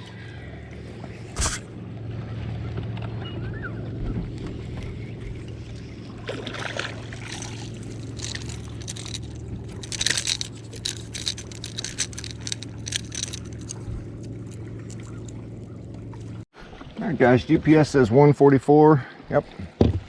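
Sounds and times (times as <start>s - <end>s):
electric trolling motor humming: 0.0s - 16.4s
water splashing against boat: 0.0s - 18.3s.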